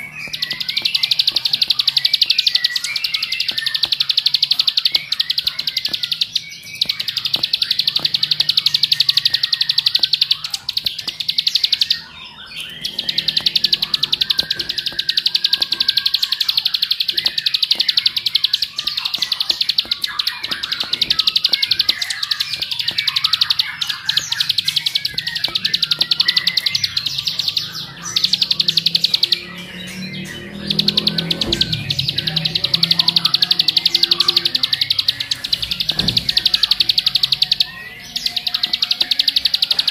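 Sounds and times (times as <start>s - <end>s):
bird singing rapid clicking song: 0.0s - 39.9s.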